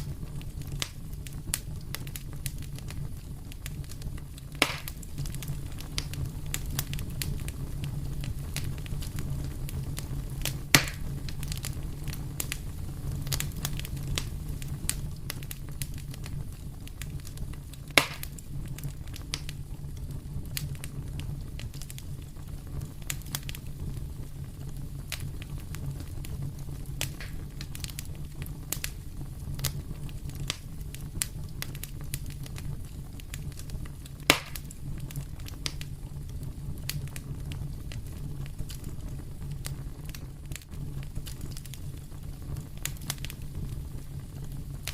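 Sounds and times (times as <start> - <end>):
steady low rumble: 0.0 - 44.9
wood fire crackling and popping: 0.0 - 44.9.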